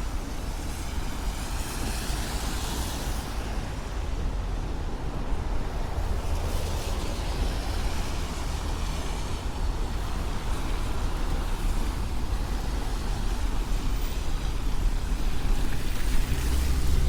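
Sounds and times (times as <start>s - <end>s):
traffic on a wet road: 0.0s - 17.0s.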